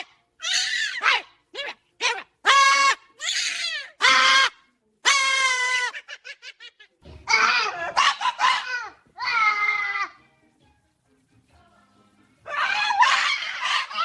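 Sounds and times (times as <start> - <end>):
high-pitched laughing and shrieking: 0.0 - 10.2, 12.5 - 14.0.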